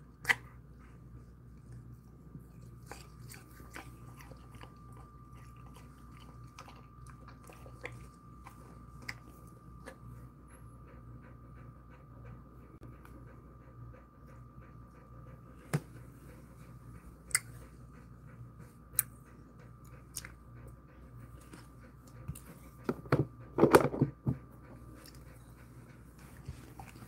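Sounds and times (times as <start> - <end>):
steady hum: 0.0 - 27.0
dog panting: 0.4 - 27.0.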